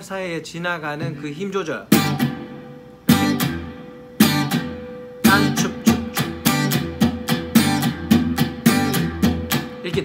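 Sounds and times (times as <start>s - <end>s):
electric guitar strumming: 1.8s - 10.0s.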